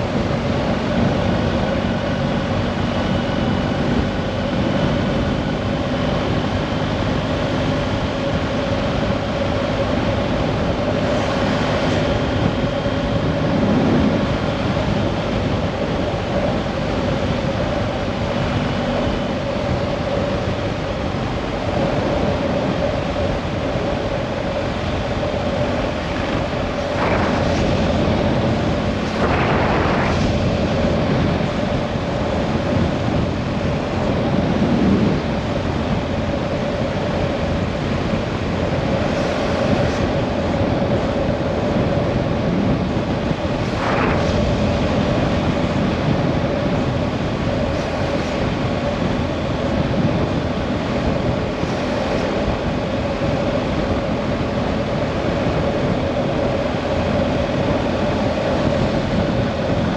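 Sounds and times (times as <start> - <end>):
rushing rumbling noise: 0.0 - 59.9.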